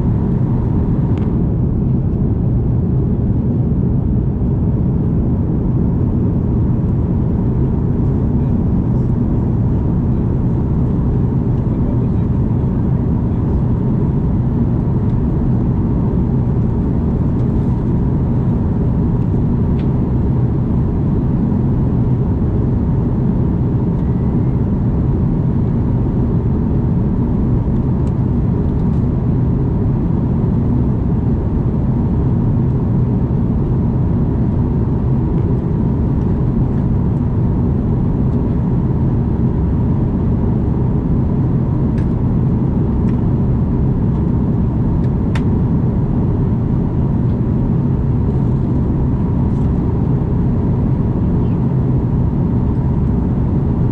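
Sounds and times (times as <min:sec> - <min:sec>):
airplane cabin roar: 0:00.0 - 0:53.9
faint steady whine: 0:00.0 - 0:53.9.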